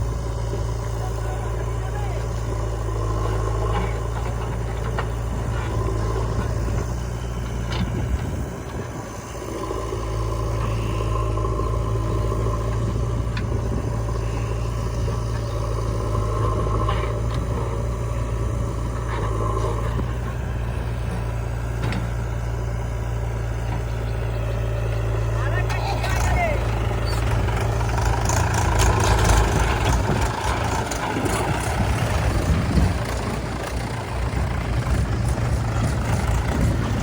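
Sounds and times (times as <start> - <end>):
diesel engine hum: 0.0 - 37.0
machinery whine: 0.0 - 37.0.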